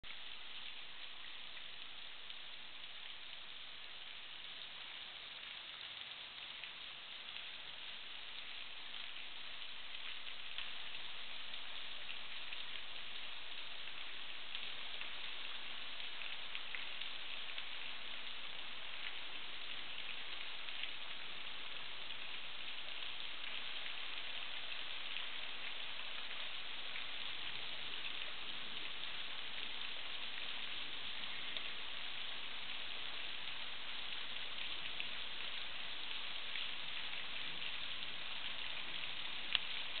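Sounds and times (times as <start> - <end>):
small waterfall splashing: 0.0 - 40.0.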